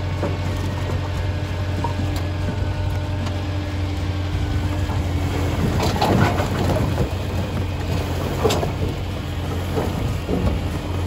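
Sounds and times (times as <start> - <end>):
logs clattering onto woodpile: 0.0 - 3.6, 4.7 - 11.0
tractor engine running: 0.0 - 11.0.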